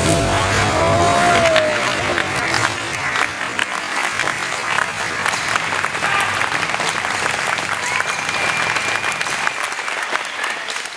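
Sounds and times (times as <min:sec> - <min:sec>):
audience clapping and cheering: 0:00.0 - 0:10.9.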